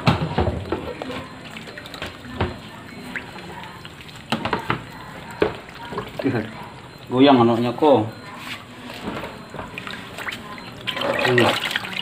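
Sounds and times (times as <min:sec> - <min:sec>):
water splashing in a basin: 0:00.0 - 0:12.0.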